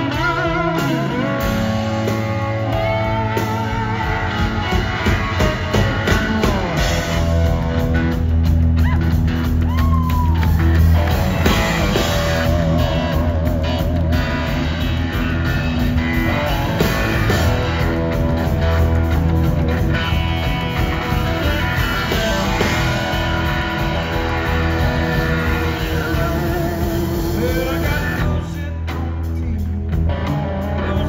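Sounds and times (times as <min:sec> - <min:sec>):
lead electric guitar bending notes: 0:00.0 - 0:09.7, 0:10.5 - 0:31.0
live rock band playing: 0:00.0 - 0:31.0.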